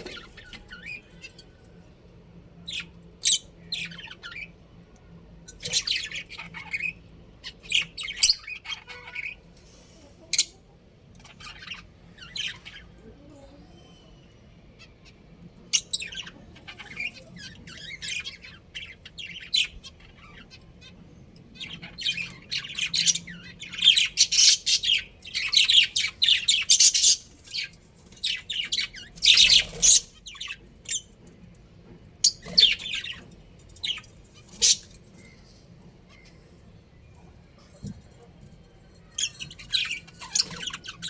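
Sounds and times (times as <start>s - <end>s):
budgerigars chirping and chattering: 0.0s - 1.7s, 2.6s - 4.7s, 5.5s - 9.5s, 10.3s - 13.1s, 14.7s - 38.3s, 39.0s - 41.0s.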